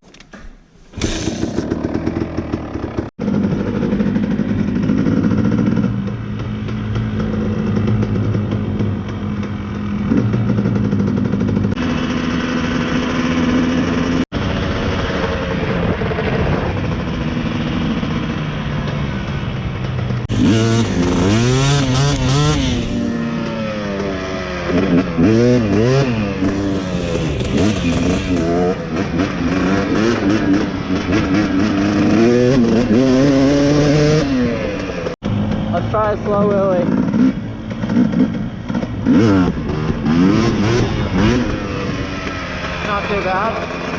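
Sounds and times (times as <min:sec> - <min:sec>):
dirt bike engine revving: 0:00.9 - 0:18.7, 0:20.2 - 0:43.9.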